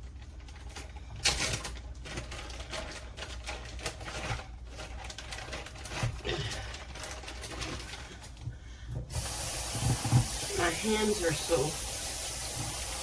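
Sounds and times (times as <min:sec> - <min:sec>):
clicks and knocks of containers: 0:00.0 - 0:10.6
rustling of food packaging: 0:00.0 - 0:11.7.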